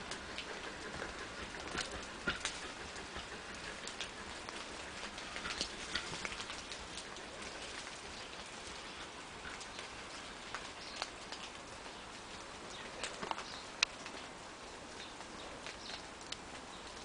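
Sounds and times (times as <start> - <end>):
soft steady hiss: 0.0 - 17.0
water dripping: 0.0 - 17.0.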